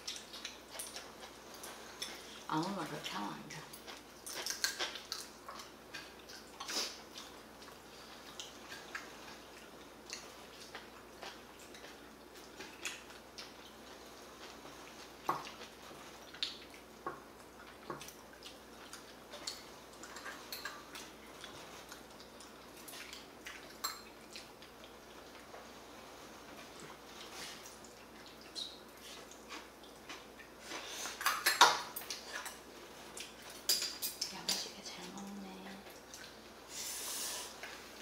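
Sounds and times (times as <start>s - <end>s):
wet chewing sounds: 0.0s - 38.0s.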